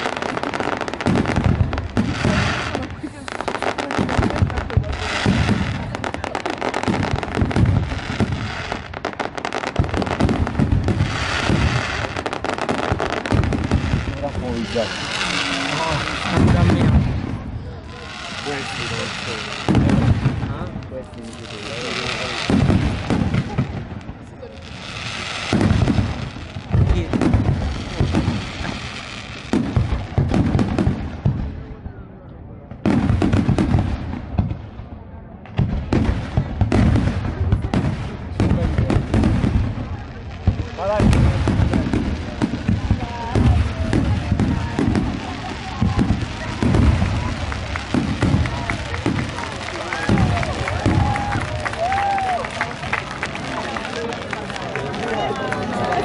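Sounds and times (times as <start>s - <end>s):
fireworks hiss: 0.0s - 31.4s, 35.7s - 54.0s
fireworks crackling pops: 0.0s - 56.0s
fireworks low booms: 0.0s - 56.0s.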